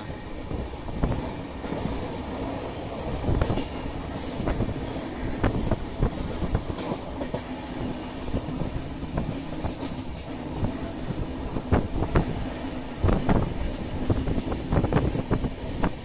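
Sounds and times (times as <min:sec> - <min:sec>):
wheels rumbling on track: 0:00.0 - 0:16.0.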